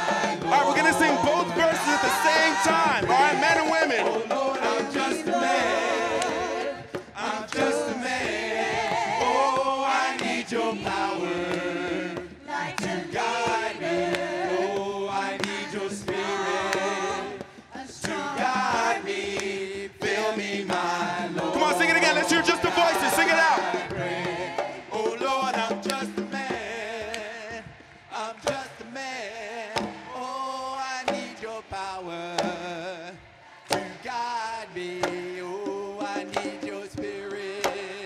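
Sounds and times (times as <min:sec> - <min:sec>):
voices singing a cappella: 0:00.0 - 0:38.0.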